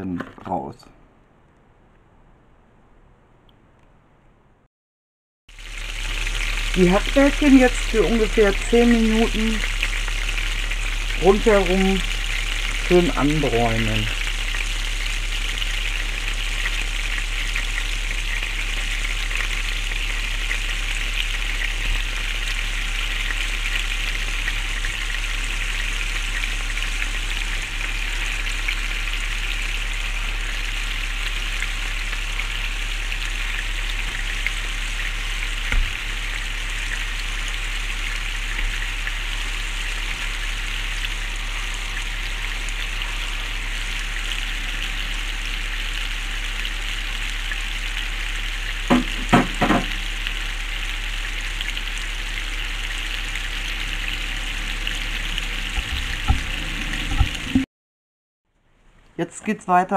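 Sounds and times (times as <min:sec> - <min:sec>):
meat sizzling in frying oil: 0:05.5 - 0:57.6.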